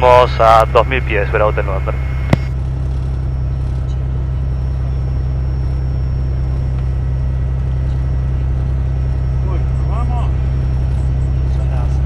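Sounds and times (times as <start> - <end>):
aircraft piston engine droning: 0.0 - 2.5, 3.6 - 12.0.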